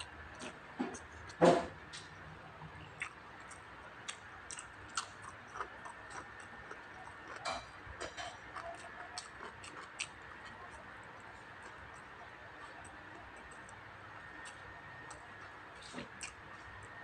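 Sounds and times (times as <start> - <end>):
chewing and mouth sounds: 2.8 - 17.0.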